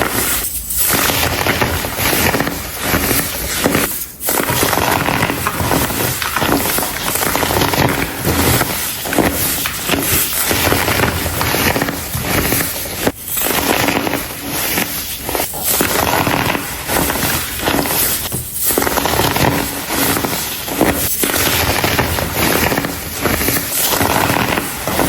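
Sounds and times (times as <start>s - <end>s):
baking soda blocks crunching: 0.0s - 25.0s.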